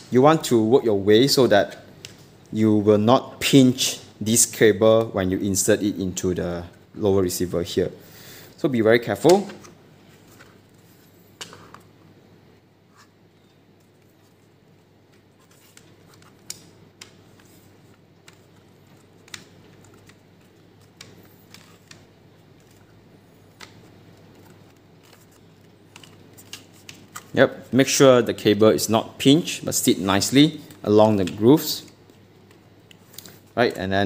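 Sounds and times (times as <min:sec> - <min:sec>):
low room hum: 0:00.0 - 0:34.0.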